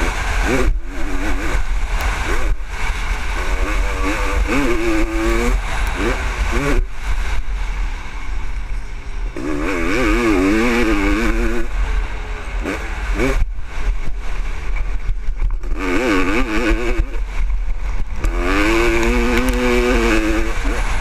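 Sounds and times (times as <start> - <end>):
two-stroke motorcycle engine revving: 0.0 - 7.5, 9.3 - 21.0
low wind rumble on microphone: 0.0 - 21.0.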